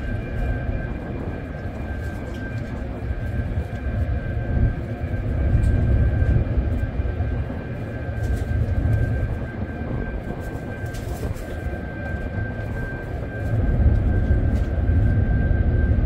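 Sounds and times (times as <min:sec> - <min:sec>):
ship machinery whining: 0:00.0 - 0:16.0
wind rumble on microphone: 0:00.0 - 0:16.0.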